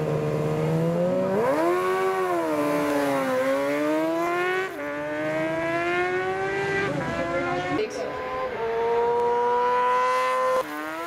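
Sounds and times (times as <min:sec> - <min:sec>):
racing motorcycle engine revving: 0:00.0 - 0:11.0.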